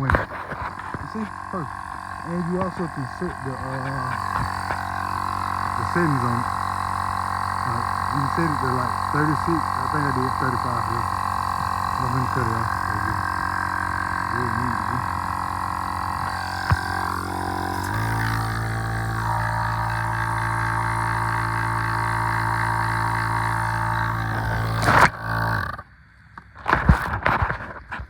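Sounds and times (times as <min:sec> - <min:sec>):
compressor motor humming: 0:00.0 - 0:27.7.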